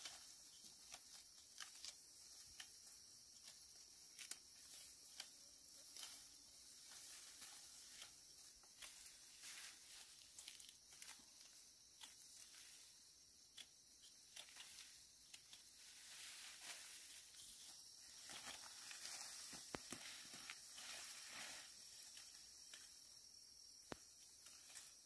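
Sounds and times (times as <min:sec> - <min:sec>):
rice stalks rustling and snapping: 0:00.0 - 0:23.2, 0:23.8 - 0:25.0.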